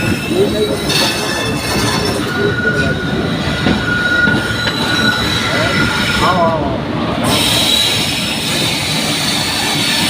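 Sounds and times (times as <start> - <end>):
train rumble: 0.0 - 10.0
train wheels squealing on rails: 0.0 - 10.0.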